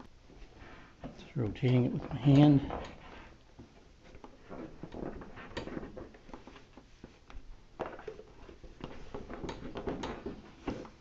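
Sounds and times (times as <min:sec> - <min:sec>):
sharp clicks and knocks: 0:01.0 - 0:11.0.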